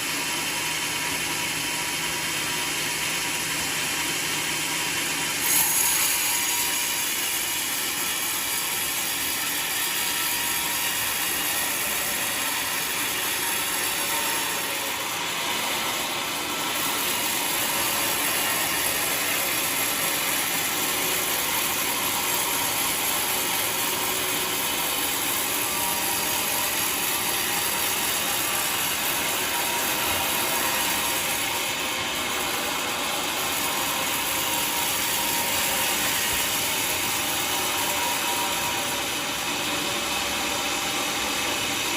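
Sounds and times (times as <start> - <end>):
sawmill blade cutting log: 0.0 - 41.9.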